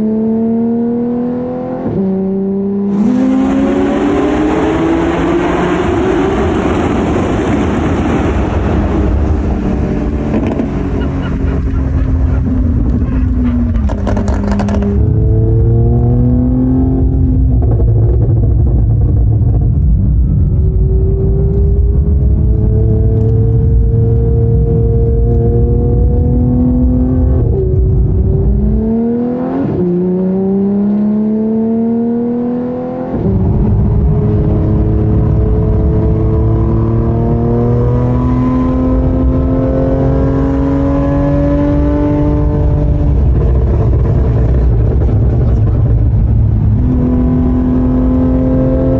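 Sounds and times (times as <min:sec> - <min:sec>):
sports car engine accelerating: 0:00.0 - 0:48.9.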